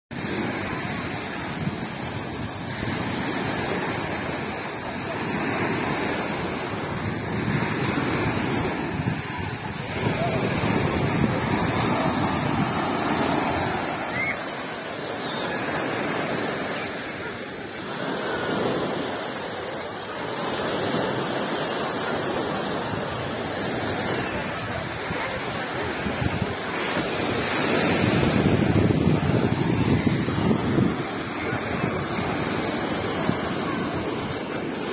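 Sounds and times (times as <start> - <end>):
sea surf washing on beach: 0.1 - 34.9.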